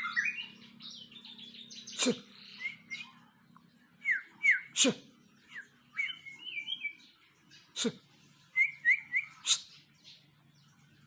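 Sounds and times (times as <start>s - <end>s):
bird singing whistled notes: 0.0s - 3.3s, 4.0s - 7.8s, 8.5s - 10.8s.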